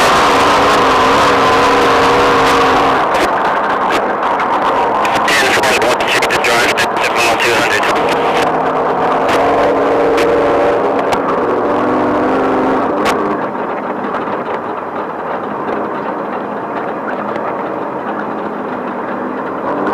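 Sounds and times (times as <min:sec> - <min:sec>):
off-road vehicle engine: 0:00.0 - 0:19.9
road and rattle noise: 0:00.0 - 0:19.9.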